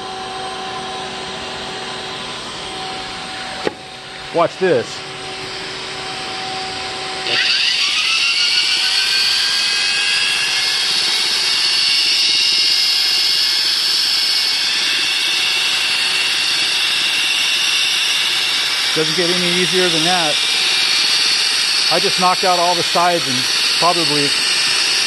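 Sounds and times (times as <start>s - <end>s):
drywall sander motor whining: 0.0s - 25.0s
shop vac running: 0.0s - 25.0s.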